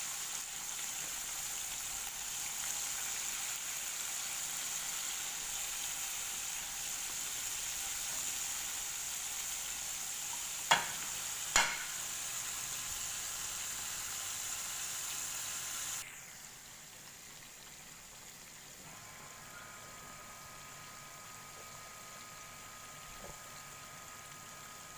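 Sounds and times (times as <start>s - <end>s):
chicken deep-frying sizzle: 0.0s - 24.9s.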